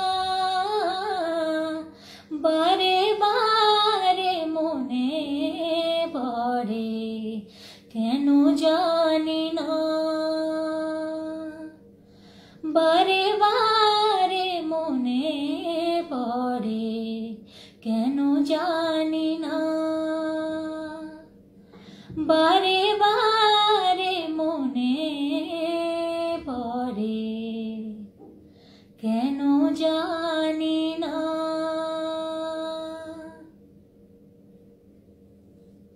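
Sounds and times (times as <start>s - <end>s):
woman singing unaccompanied: 0.0s - 11.8s, 12.6s - 21.3s, 22.1s - 28.1s, 29.0s - 33.5s.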